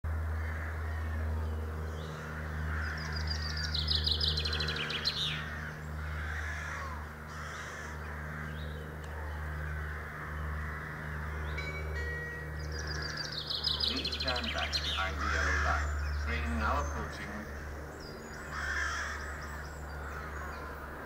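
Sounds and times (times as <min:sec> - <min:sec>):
diesel locomotive engine drone: 0:00.1 - 0:21.0
songbirds chirping: 0:00.1 - 0:21.0
harsh rattling bird call: 0:00.2 - 0:21.0.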